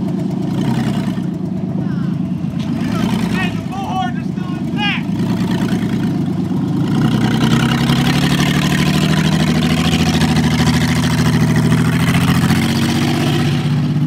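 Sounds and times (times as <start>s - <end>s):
minivan engine driving past: 0.0s - 14.0s.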